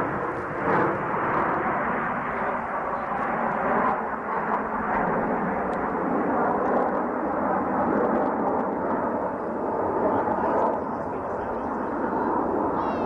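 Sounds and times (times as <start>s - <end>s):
muffled jet flyby: 0.0s - 13.0s.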